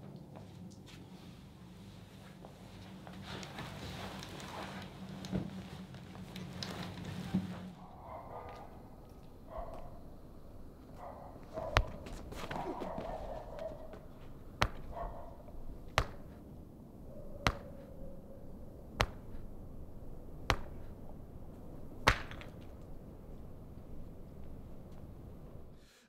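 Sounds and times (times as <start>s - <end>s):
low steady background: 0.0s - 26.0s.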